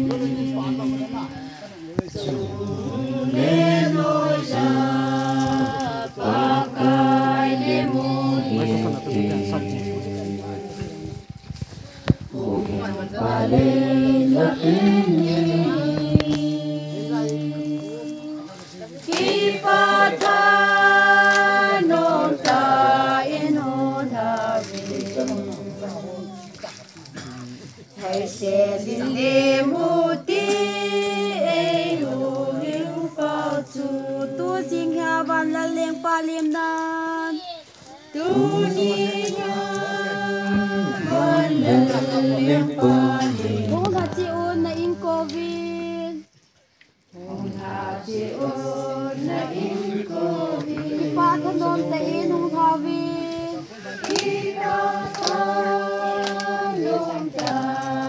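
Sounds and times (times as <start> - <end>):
group singing folk song: 0.0 - 58.0.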